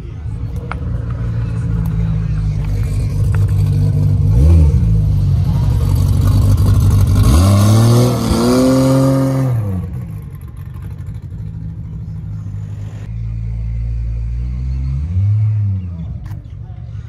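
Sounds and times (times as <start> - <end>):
car engine revving: 0.5 - 16.4.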